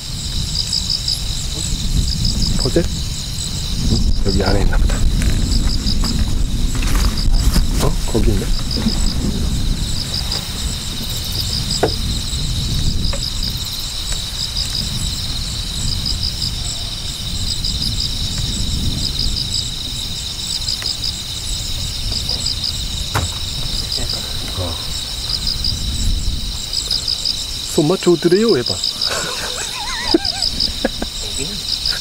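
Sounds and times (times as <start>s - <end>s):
low rumble: 0.0s - 27.7s
crickets chirping: 0.0s - 32.0s.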